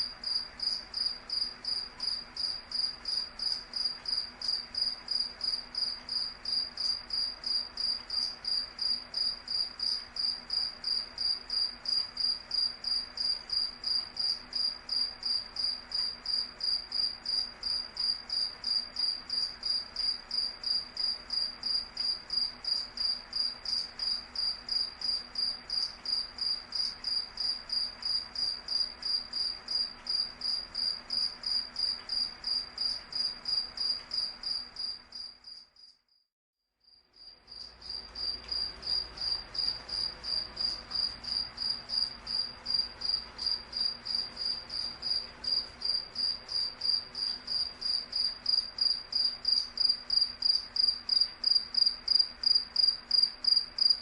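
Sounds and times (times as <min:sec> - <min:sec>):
cricket chirping: 0:00.0 - 0:36.2, 0:36.8 - 0:54.0.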